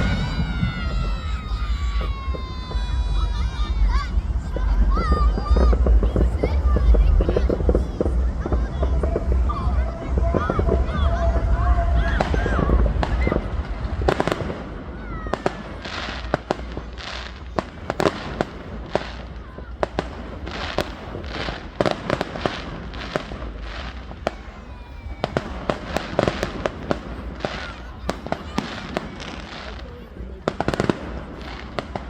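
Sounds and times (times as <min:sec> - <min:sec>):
fireworks bangs: 0:00.0 - 0:32.0
fireworks crackling: 0:00.0 - 0:32.0.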